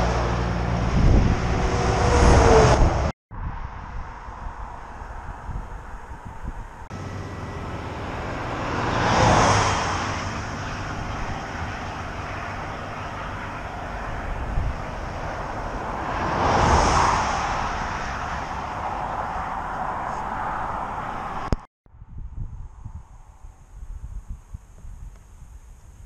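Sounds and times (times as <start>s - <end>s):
vehicles passing close: 0.0s - 21.7s
steady road noise: 0.0s - 26.0s.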